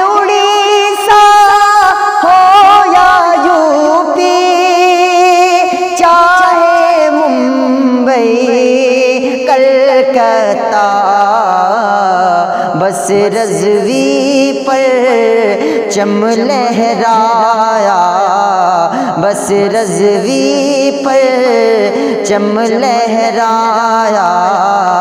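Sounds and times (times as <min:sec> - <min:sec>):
man singing devotional song: 0:00.0 - 0:25.0.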